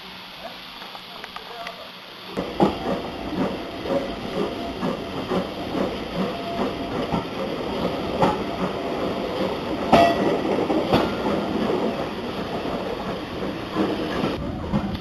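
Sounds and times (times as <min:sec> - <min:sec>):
train wheels clattering: 0:02.4 - 0:15.0.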